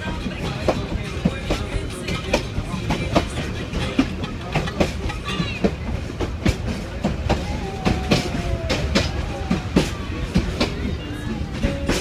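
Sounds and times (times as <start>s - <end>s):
train rumbling on track: 0.0s - 12.0s
wheels clacking over rail joints: 0.0s - 12.0s.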